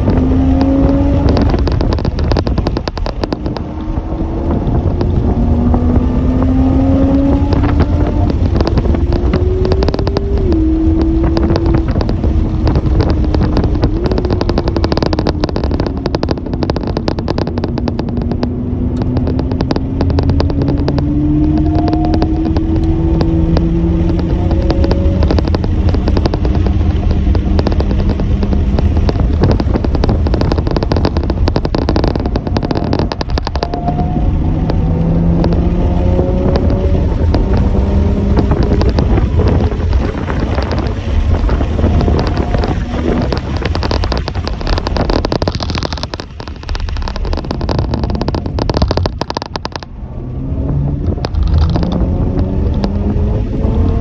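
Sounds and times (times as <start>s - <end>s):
heavy low rumble: 0.0s - 54.0s
vehicle engines accelerating: 0.0s - 54.0s.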